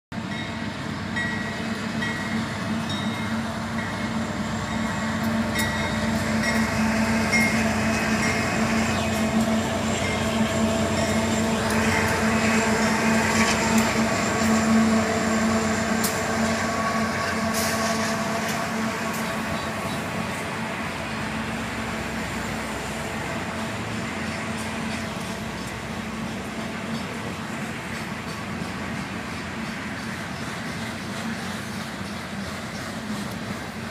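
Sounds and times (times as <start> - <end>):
diesel locomotive engine drone: 0.1 - 33.9
rail rumble: 0.1 - 33.9.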